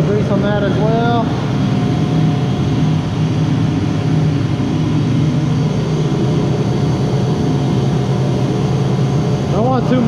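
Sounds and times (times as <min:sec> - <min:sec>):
machinery drone: 0:00.0 - 0:10.0.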